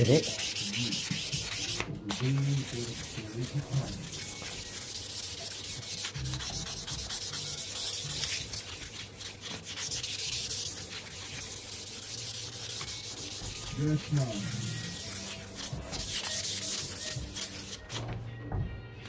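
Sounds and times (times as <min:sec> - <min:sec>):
sandpaper rubbing on stone: 0:00.0 - 0:18.0.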